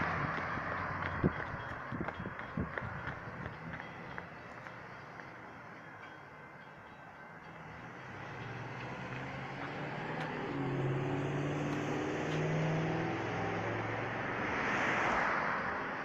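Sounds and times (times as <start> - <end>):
car engine hum: 0.0 - 16.0.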